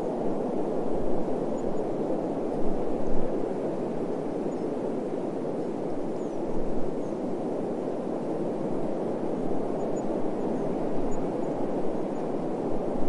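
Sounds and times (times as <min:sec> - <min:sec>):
deep wind rumble: 0:00.0 - 0:13.0.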